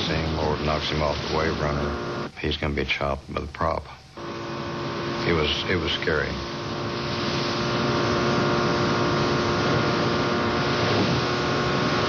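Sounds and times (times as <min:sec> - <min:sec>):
motorboat engine running: 0:00.0 - 0:02.4, 0:04.1 - 0:12.0.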